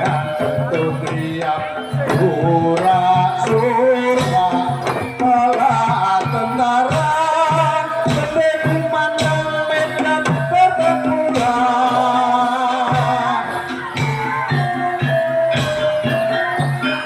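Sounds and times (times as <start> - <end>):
drumming steady beat: 0.0 - 17.0
person singing with vibrato: 0.0 - 17.0.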